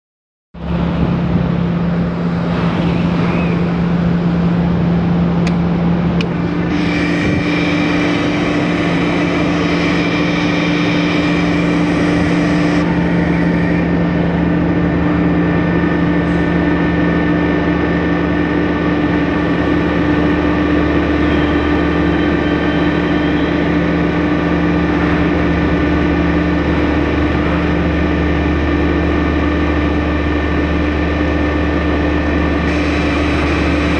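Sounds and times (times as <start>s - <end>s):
high whine: 0.6s - 33.9s
machine engine running: 0.6s - 33.9s.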